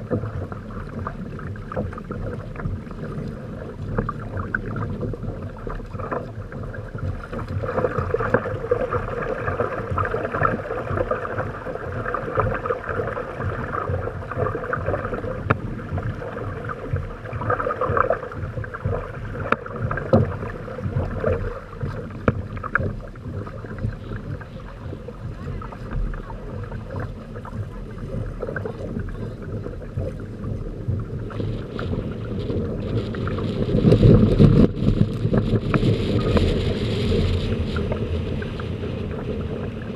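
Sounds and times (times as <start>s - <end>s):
water splashing against hulls: 0.0s - 39.9s.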